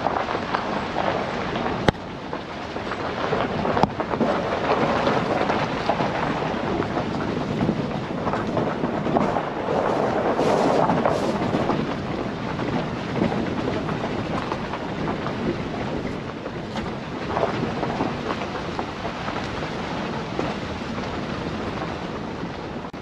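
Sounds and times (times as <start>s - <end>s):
vehicle on gravel road: 0.0s - 23.0s.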